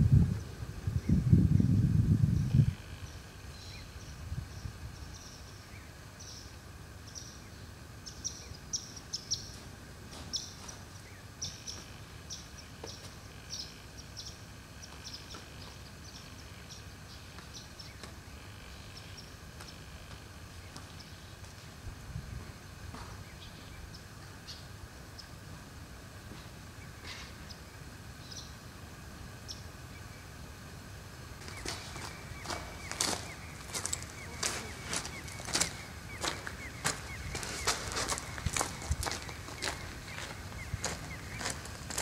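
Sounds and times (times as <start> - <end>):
faint outdoor hiss: 0.0 - 42.0
small birds chirping: 0.4 - 21.7, 26.3 - 28.7, 31.2 - 42.0.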